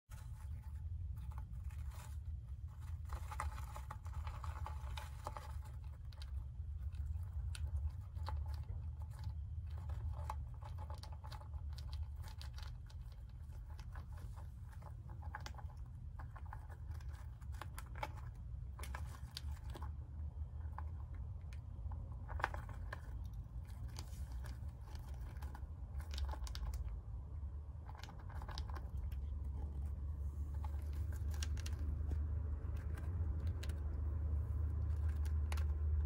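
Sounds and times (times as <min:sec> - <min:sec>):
hamster chewing crunchy food: 0:00.0 - 0:36.0
steady low hum: 0:00.0 - 0:36.0.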